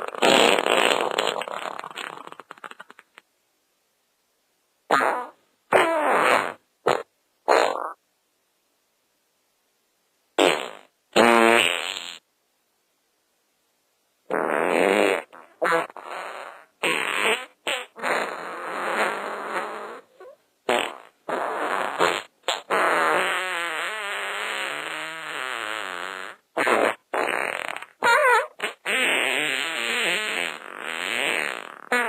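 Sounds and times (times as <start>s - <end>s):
fart sounds: 0.0s - 3.2s, 4.9s - 8.0s, 10.4s - 12.2s, 14.3s - 32.0s.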